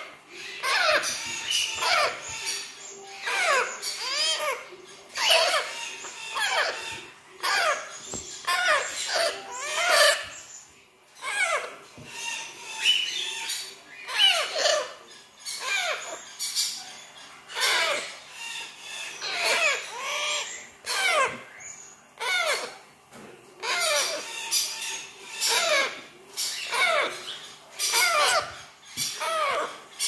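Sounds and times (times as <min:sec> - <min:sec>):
parrot chicks begging calls: 0:00.0 - 0:30.0.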